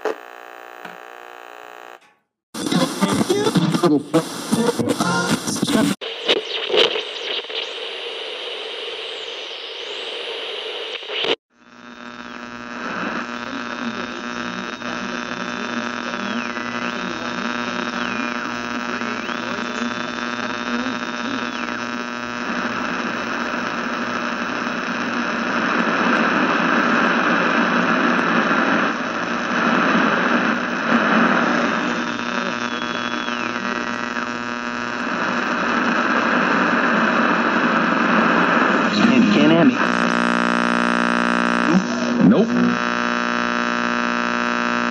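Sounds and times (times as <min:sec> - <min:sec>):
radio static hiss: 0:00.0 - 0:02.0, 0:02.6 - 0:44.9
buzzing hum: 0:00.0 - 0:02.1, 0:06.1 - 0:44.9.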